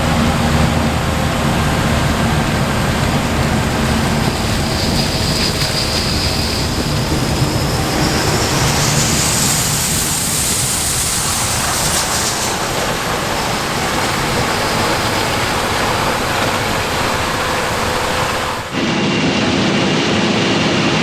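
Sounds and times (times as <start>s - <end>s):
combine harvester running: 0.0s - 21.0s.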